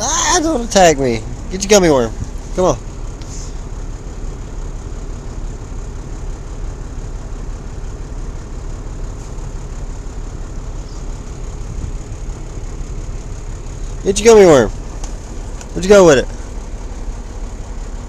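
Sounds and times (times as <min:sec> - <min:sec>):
truck diesel engine rumble: 0:00.0 - 0:18.0.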